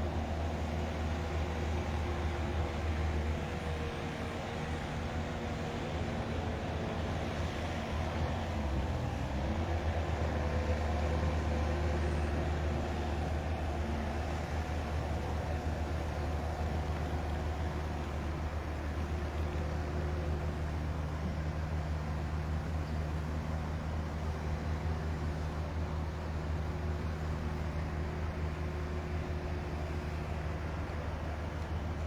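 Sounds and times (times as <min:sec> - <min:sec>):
faint steady whine: 0:00.0 - 0:32.0
large engine rumbling: 0:00.0 - 0:32.0.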